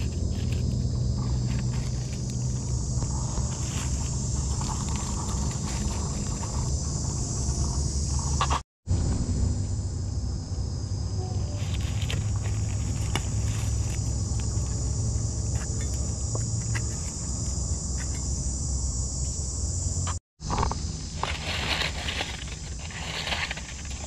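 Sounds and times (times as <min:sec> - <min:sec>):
rustling of dry leaves and twigs: 0:00.0 - 0:09.2, 0:11.2 - 0:18.4, 0:20.4 - 0:24.0
high-pitched insect chorus: 0:00.0 - 0:24.0.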